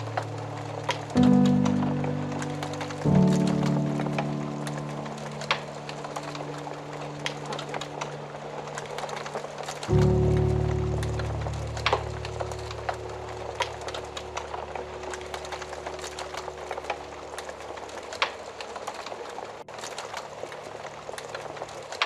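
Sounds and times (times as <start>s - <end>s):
background music chord: 0.0s - 18.7s
log fire crackling: 0.0s - 22.0s.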